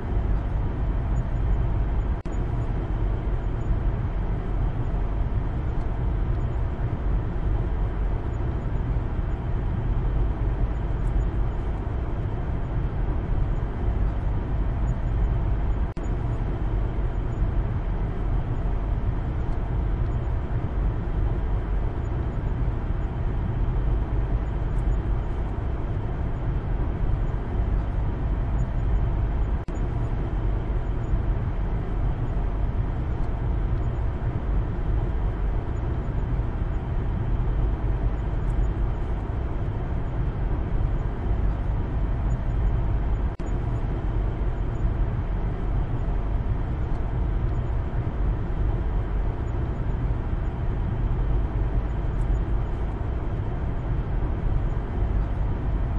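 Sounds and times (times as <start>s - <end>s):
car cabin engine and tyre rumble: 0.0s - 55.9s.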